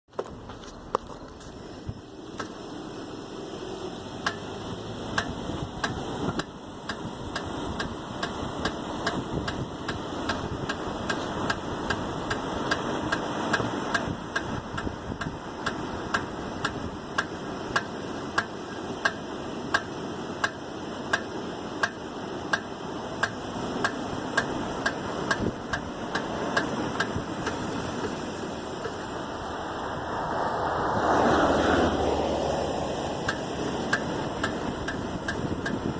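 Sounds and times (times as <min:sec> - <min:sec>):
steady running hum: 0:00.2 - 0:35.9.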